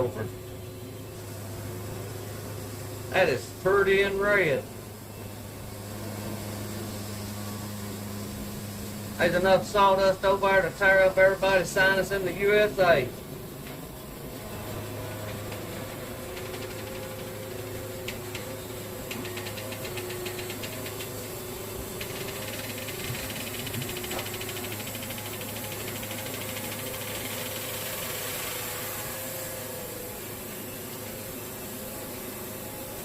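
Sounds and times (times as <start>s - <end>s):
sawmill engine running: 0.0s - 33.0s.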